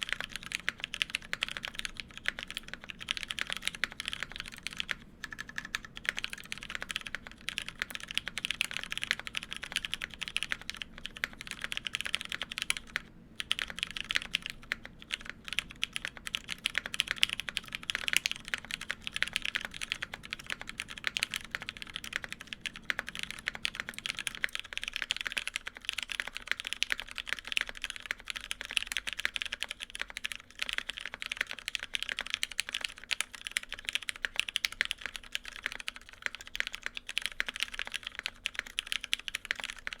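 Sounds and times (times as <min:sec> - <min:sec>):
fast typing on mechanical keyboard: 0:00.0 - 0:40.0.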